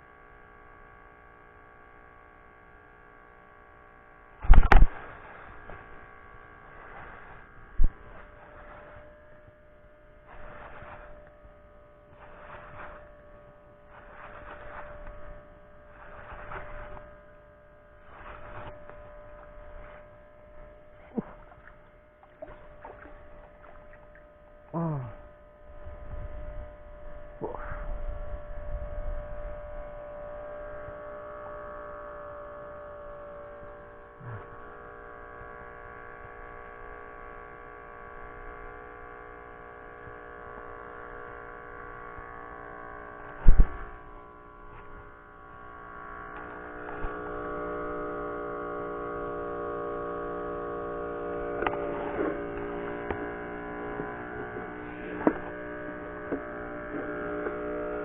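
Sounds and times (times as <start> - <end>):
hum of held tones: 0.0 - 58.0.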